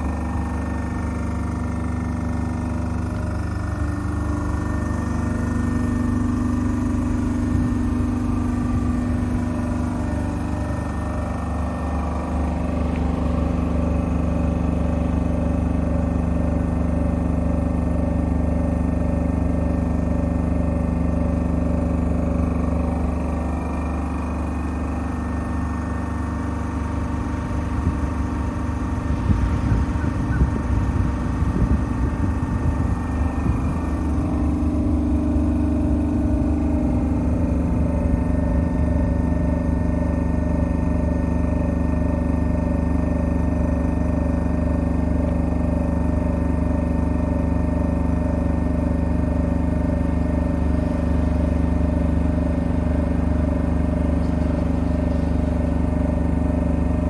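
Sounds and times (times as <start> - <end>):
compressor humming and pulsing: 0.0 - 57.0.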